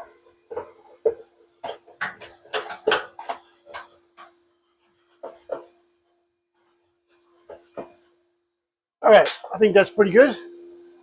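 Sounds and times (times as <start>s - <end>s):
brush scrubbing inside dryer: 0.0s - 10.4s
faint steady hum: 0.0s - 11.0s.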